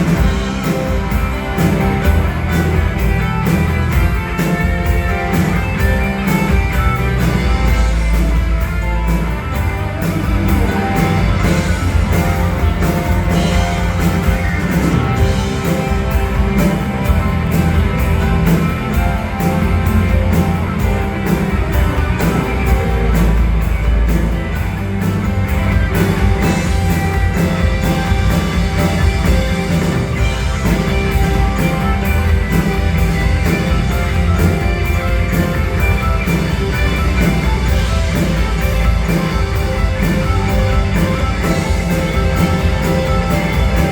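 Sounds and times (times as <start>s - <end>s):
electric guitar: 0.0s - 43.9s
rock band playing live: 0.0s - 43.9s
steady drum beat: 0.0s - 43.9s.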